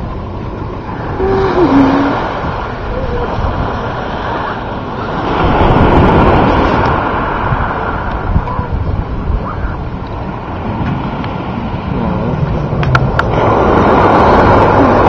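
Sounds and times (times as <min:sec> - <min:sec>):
small waves washing on beach: 0:00.0 - 0:15.0
wind rumbling on microphone: 0:00.0 - 0:15.0.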